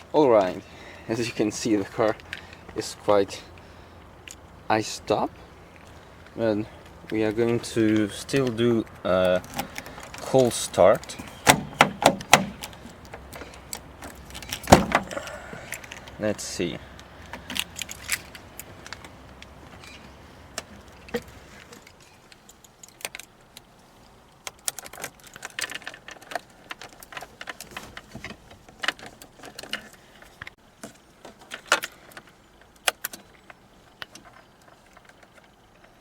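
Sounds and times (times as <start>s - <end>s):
sharp clicks and rattles of handling: 1.3s - 4.6s, 5.7s - 36.0s.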